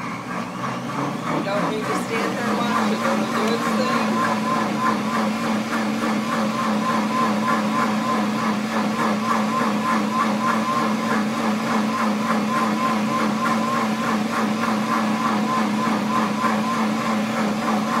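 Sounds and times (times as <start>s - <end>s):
blender motor humming: 0.0s - 18.0s.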